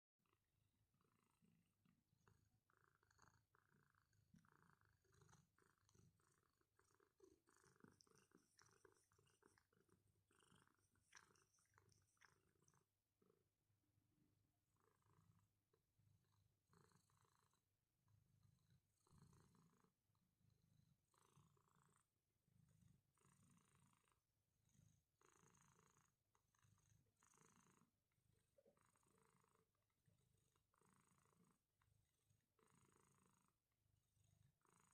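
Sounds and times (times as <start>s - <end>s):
cat purring: 0.2s - 34.9s.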